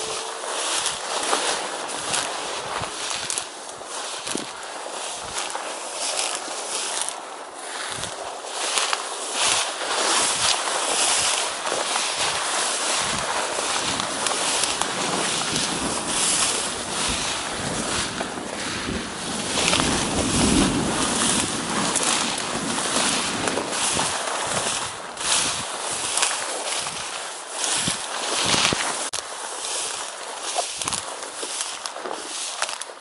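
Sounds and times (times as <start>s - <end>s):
grass swishing underfoot: 0.0s - 33.0s
wind rumbling on microphone: 0.0s - 33.0s.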